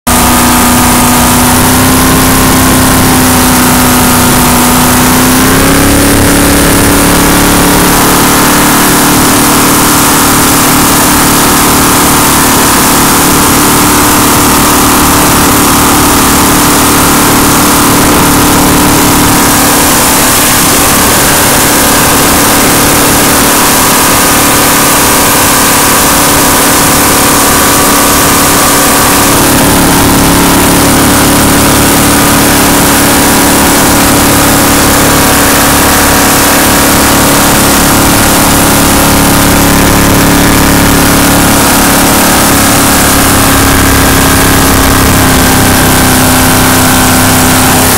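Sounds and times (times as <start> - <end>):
boat engine running hard: 0.0 - 47.9.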